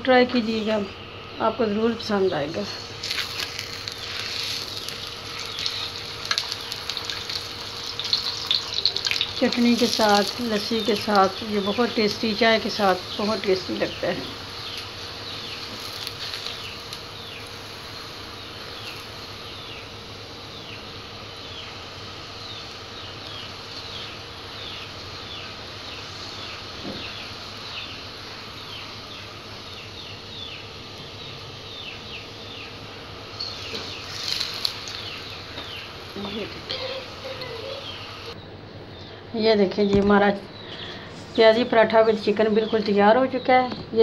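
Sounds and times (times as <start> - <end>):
flatbread sizzling on a griddle: 2.8 - 38.4.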